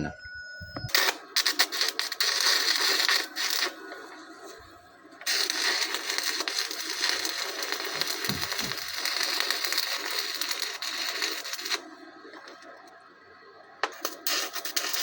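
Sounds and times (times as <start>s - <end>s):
arc welder crackling: 0.9s - 13.1s, 13.8s - 15.0s.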